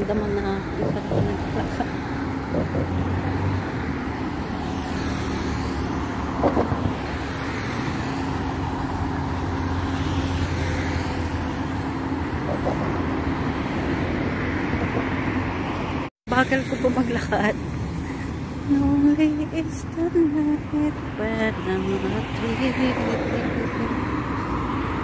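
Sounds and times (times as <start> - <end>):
city road traffic: 0.0 - 25.0
vehicles passing by: 0.0 - 25.0.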